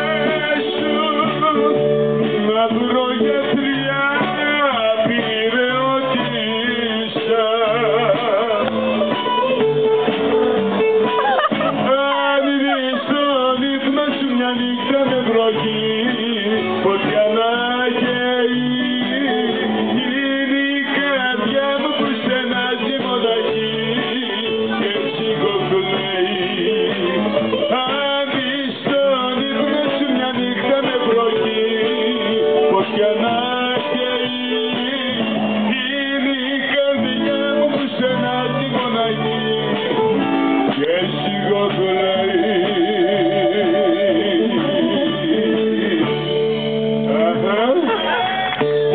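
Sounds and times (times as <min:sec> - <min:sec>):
man singing into microphone: 0:00.0 - 0:09.6, 0:11.4 - 0:48.9
strummed acoustic guitar: 0:00.0 - 0:48.9.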